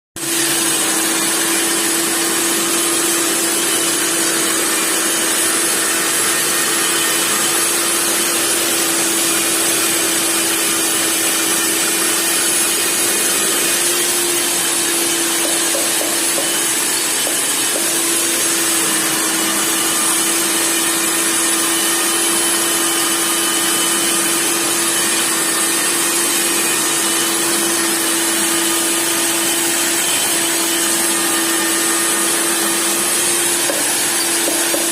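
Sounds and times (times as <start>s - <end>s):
core drill running: 0.2s - 34.9s.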